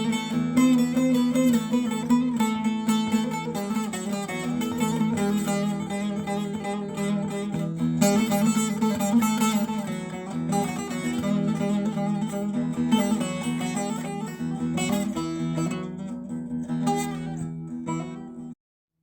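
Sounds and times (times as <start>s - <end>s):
plucked string melody: 0.0s - 18.6s.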